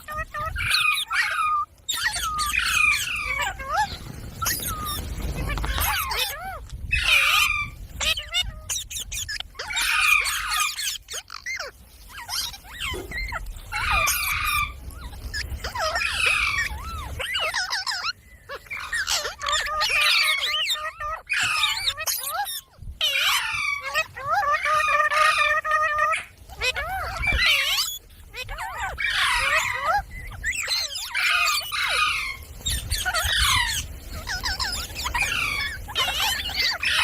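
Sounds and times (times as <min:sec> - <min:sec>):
parrot calling and chattering: 0:00.0 - 0:37.0.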